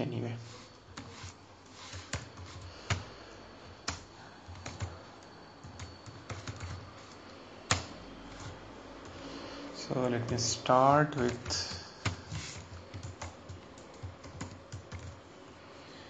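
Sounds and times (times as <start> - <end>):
computer keyboard typing: 0.9 - 9.2, 9.9 - 15.2.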